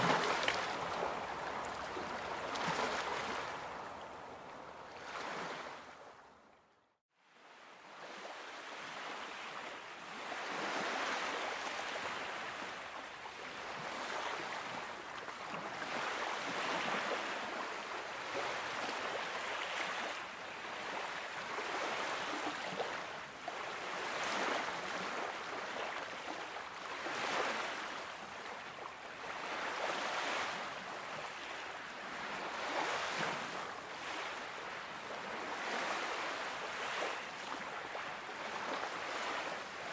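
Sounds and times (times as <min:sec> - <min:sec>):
waves washing onto sandy shore: 0:00.0 - 0:05.9, 0:07.5 - 0:39.9.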